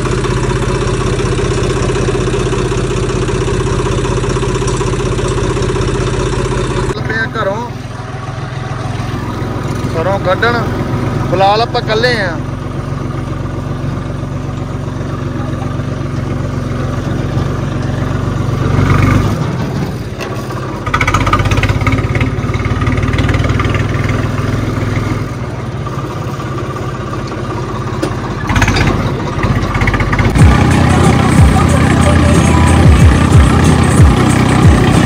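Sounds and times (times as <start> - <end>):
tractor diesel engine: 0.0 - 35.0.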